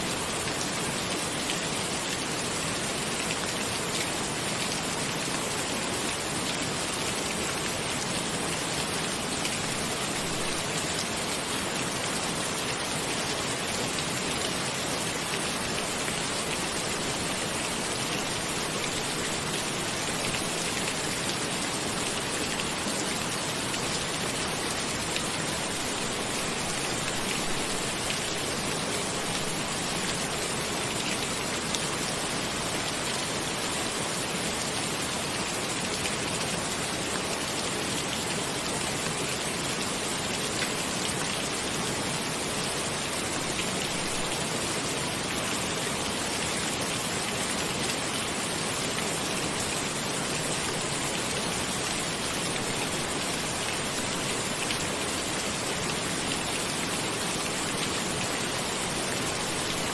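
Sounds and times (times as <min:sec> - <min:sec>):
rain on a roof: 0:00.0 - 0:59.9.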